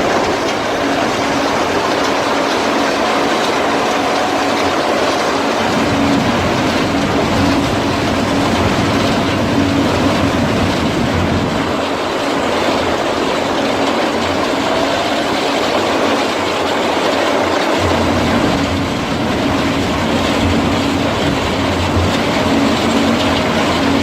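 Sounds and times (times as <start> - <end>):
wood chipper grinding: 0.0 - 24.0.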